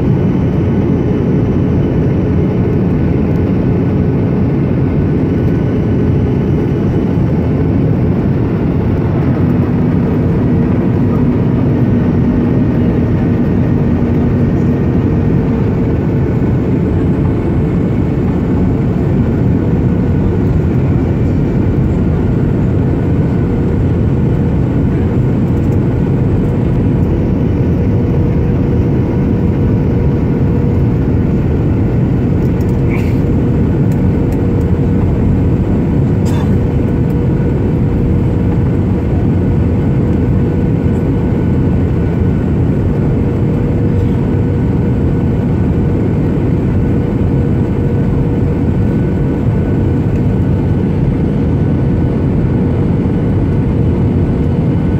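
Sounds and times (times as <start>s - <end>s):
air rushing along fuselage: 0.0s - 54.9s
jet engine drone: 0.0s - 54.9s.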